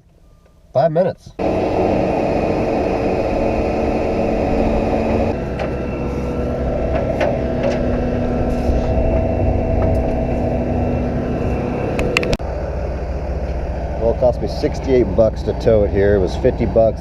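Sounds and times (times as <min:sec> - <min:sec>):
truck engine running: 0:01.4 - 0:17.0.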